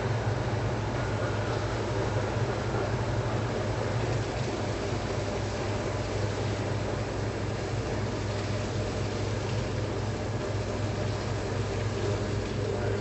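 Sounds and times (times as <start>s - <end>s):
machine low hum: 0.0s - 13.0s.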